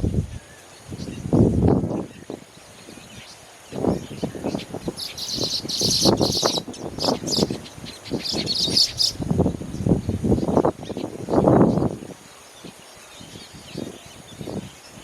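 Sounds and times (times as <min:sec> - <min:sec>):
weaver birds chattering: 0:00.3 - 0:15.0.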